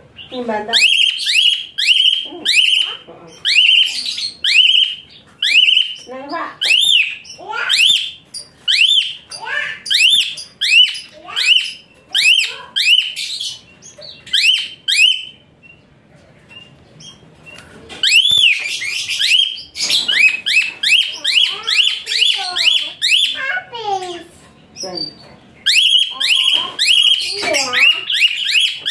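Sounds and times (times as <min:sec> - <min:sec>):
starling singing shrill whistles: 0:00.7 - 0:13.6, 0:14.3 - 0:15.4, 0:18.0 - 0:23.4, 0:24.9 - 0:28.9.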